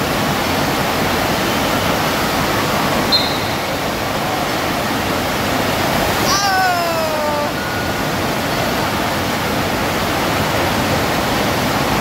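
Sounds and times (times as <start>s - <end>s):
rushing water hiss: 0.0s - 12.0s.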